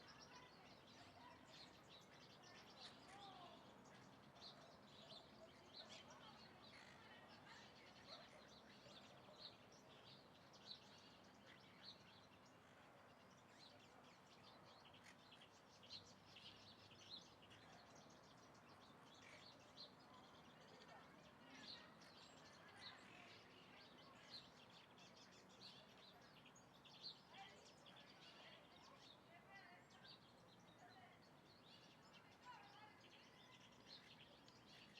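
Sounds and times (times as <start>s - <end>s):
faint birds chirping: 0.0s - 34.9s.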